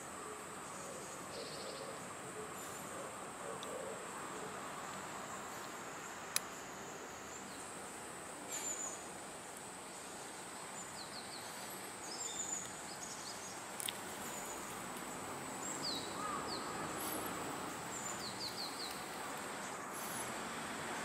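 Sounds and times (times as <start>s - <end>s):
small birds chirping: 0.0s - 21.0s
steady background hiss: 0.0s - 21.0s.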